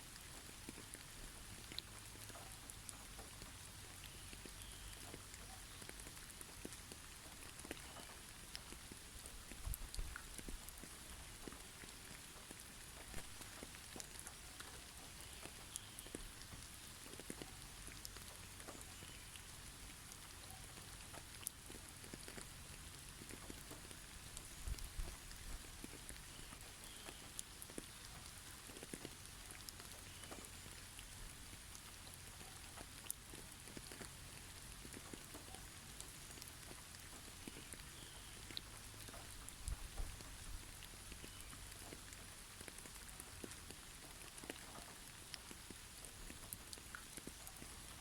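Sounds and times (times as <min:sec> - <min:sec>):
faint steady hiss: 0:00.0 - 0:48.0
small ticks: 0:00.1 - 0:48.0.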